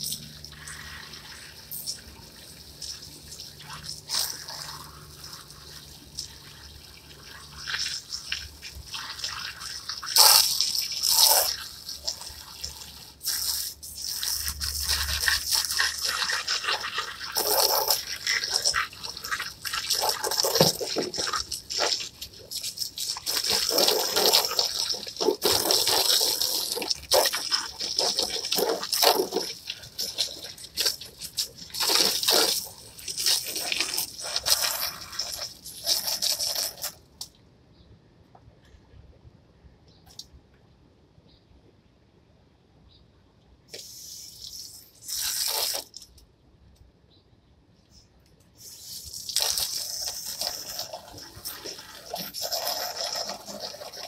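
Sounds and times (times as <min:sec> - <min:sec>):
hose water spraying on plastic chairs: 0:00.0 - 0:37.0, 0:43.7 - 0:46.1, 0:48.6 - 0:54.0.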